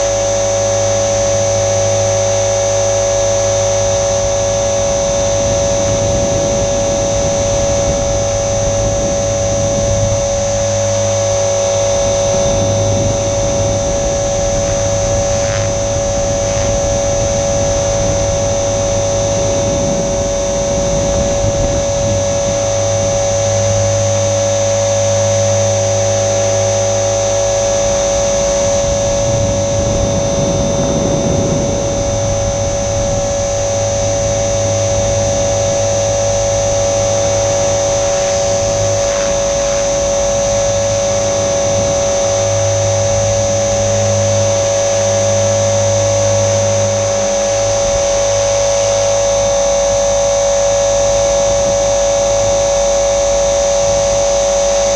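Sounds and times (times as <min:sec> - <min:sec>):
electric motor high whine: 0:00.0 - 0:54.9
helicopter rotor noise: 0:00.0 - 0:54.9
lower hum: 0:00.0 - 0:54.9.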